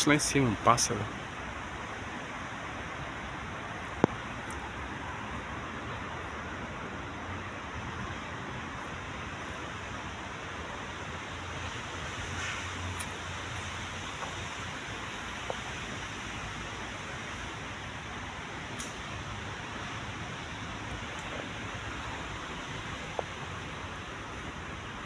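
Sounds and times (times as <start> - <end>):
constant even hiss: 0.0 - 25.0.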